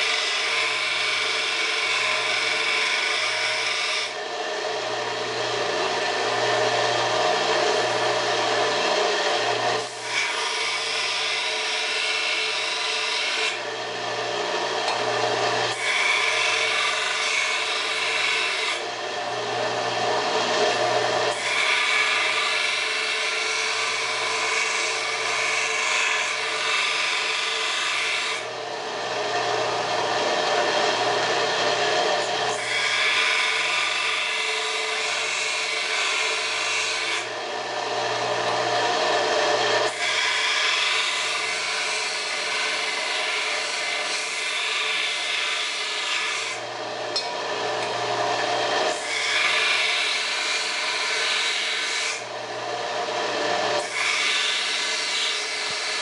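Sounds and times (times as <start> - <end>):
belt grinder motor hum: 0.0 - 56.0
steel grinding on sanding belt: 0.0 - 56.0.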